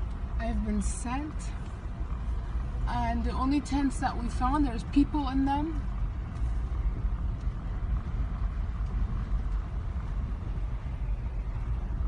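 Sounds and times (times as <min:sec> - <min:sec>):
car engine rumble from inside: 0:00.0 - 0:12.0.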